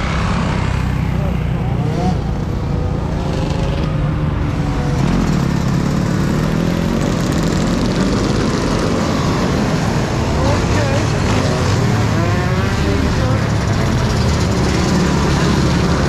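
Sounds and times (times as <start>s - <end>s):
road noise: 0.0s - 16.0s
vehicle engine running: 0.0s - 16.0s.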